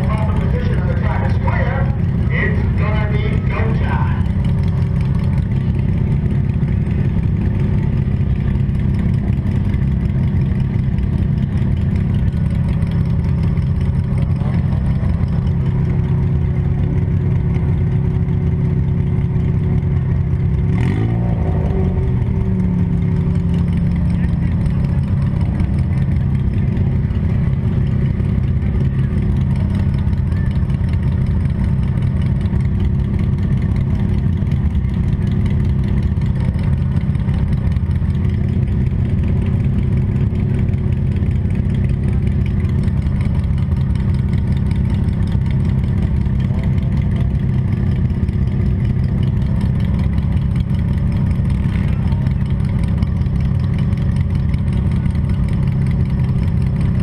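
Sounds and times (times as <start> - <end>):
car engine running loudly: 0.0 - 57.0.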